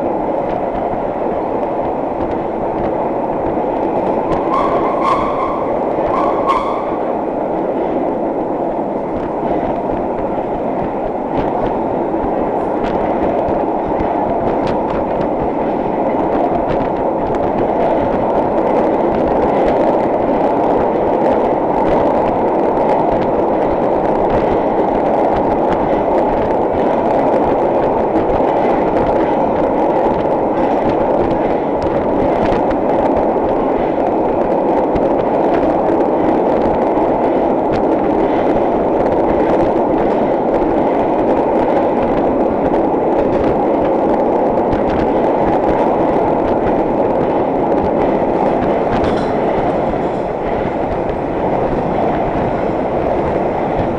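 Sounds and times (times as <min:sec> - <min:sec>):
subway car wheels rumbling: 0:00.0 - 0:53.9.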